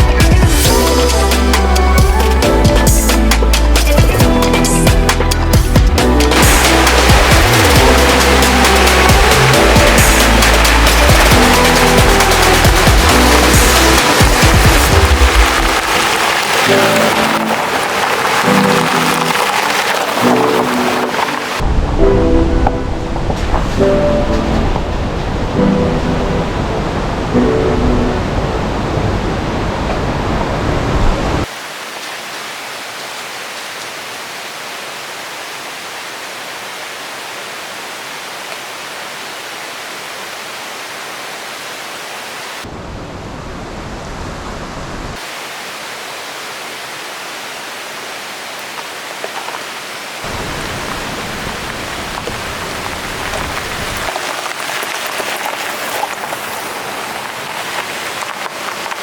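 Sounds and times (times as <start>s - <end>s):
waterfall rushing: 0.0s - 42.7s, 43.8s - 59.0s.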